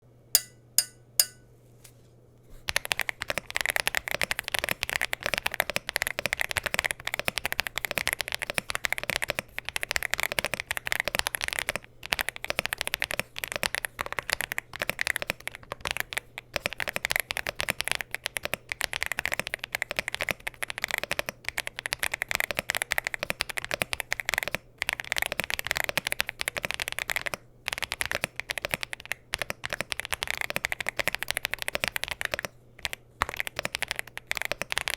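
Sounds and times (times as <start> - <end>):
fast typing on mechanical keyboard: 2.7 - 34.9.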